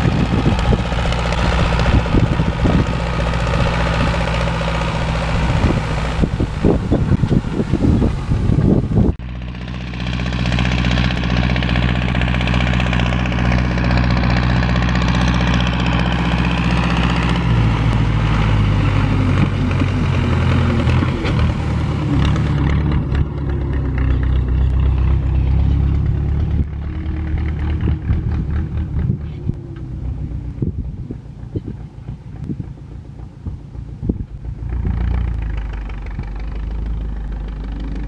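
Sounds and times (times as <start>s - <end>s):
tractor diesel engine passing: 0.0s - 38.0s.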